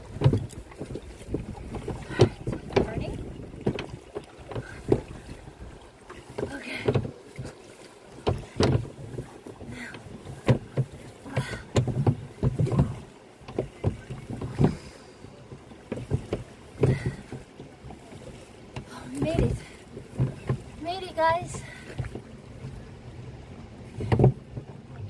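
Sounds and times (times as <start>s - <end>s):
paddle knocks: 0.0s - 22.9s, 23.8s - 25.0s
canoe paddle strokes in water: 0.0s - 25.0s.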